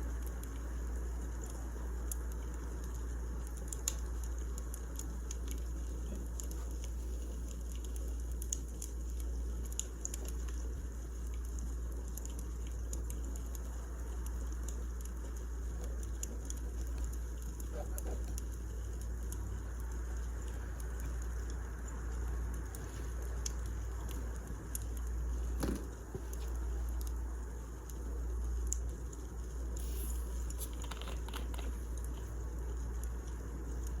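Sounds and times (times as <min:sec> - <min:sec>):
wood fire burning: 0:00.0 - 0:34.0.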